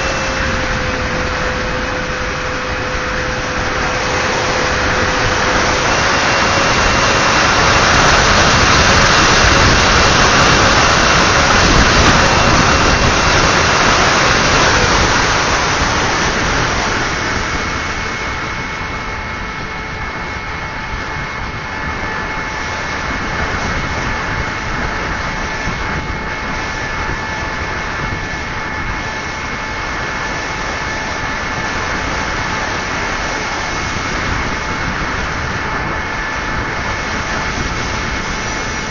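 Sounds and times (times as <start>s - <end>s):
motor and propeller whine: 0.0s - 38.9s
rushing air: 0.0s - 38.9s.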